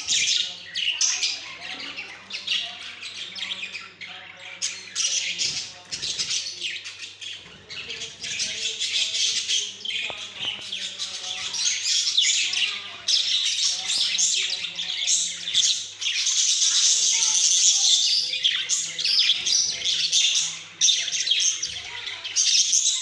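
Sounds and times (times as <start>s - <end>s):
budgerigars chattering and warbling: 0.0s - 23.0s.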